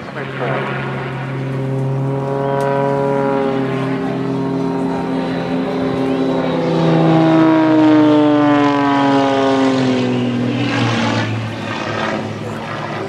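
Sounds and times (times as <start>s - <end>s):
propeller plane passing overhead: 0.0s - 13.0s.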